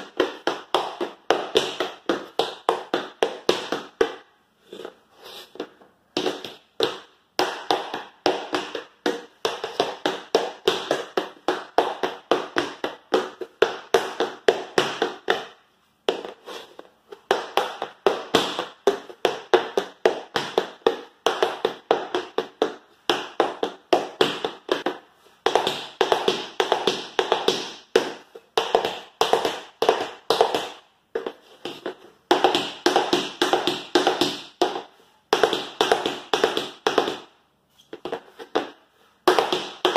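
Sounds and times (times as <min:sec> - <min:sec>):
tap shoes on wooden floor: 0:00.0 - 0:39.9.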